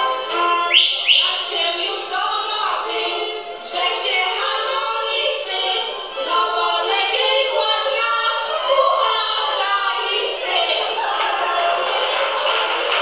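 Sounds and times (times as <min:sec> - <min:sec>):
women singing folk song: 0:00.0 - 0:12.2.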